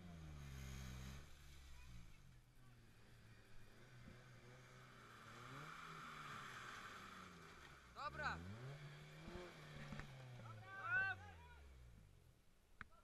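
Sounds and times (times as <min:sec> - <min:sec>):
engines revving: 0:00.0 - 0:12.2.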